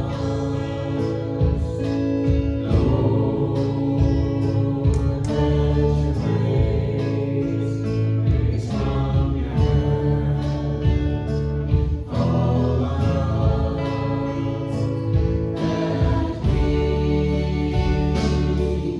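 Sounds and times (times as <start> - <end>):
guitar: 0.0 - 18.9
person singing: 0.0 - 18.9
steady drum beat: 0.0 - 18.9
worship band playing: 0.0 - 18.9.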